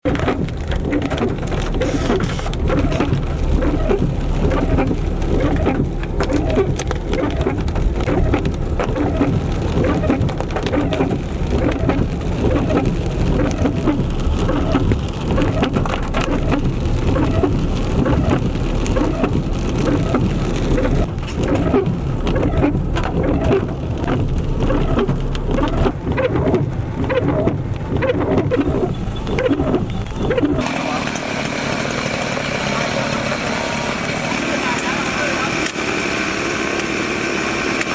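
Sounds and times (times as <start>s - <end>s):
constant low rumble: 0.0s - 31.5s
heavy rain pouring: 0.0s - 37.9s.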